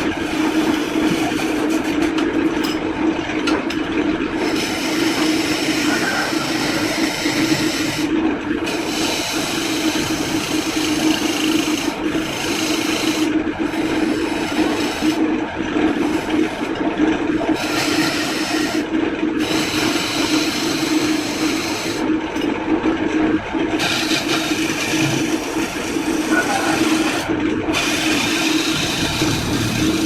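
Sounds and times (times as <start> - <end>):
power tool grinding wood: 0.0 - 2.1, 4.3 - 22.1, 23.7 - 30.0
motor hum: 0.0 - 30.0.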